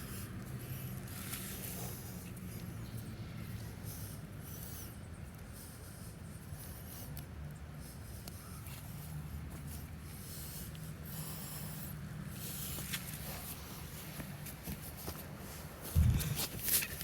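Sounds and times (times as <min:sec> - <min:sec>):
steady low rumble: 0:00.0 - 0:16.8.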